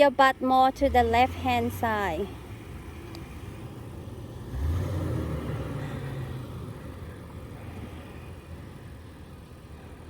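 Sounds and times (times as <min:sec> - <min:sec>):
engine running at low speed: 0:00.1 - 0:10.0.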